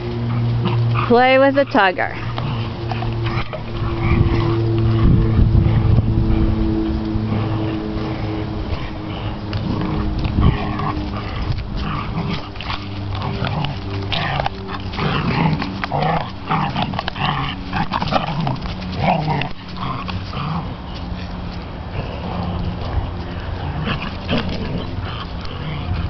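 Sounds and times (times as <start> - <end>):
dogs growling in play: 0.0 - 26.0
steady low hum: 0.0 - 26.0.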